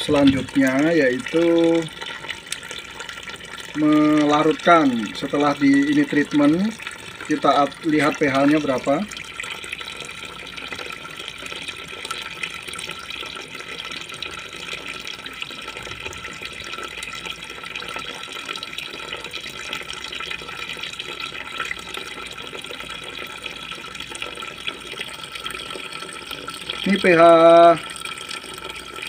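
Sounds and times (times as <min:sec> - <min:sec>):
splashing and bubbling: 0:00.0 - 0:27.0
liquid pouring into bucket: 0:00.0 - 0:29.0.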